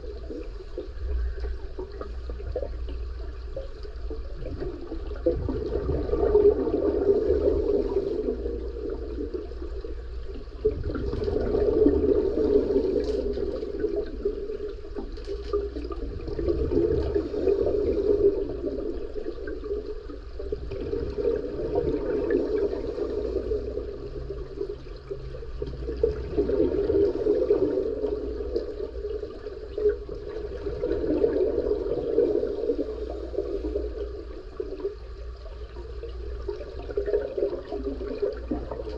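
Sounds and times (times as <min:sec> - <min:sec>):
exhaled bubbles rushing: 0:00.0 - 0:38.9.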